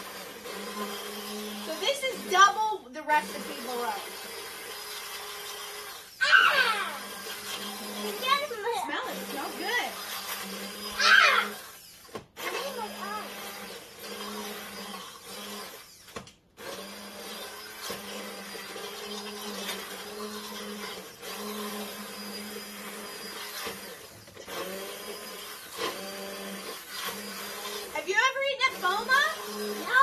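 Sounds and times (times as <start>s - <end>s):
immersion blender motor hum: 0.0s - 30.0s.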